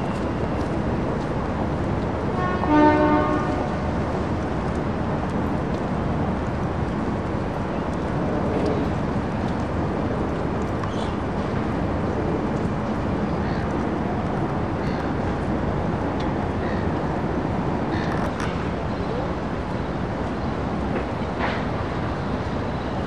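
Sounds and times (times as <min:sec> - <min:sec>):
urban background noise: 0:00.0 - 0:23.0.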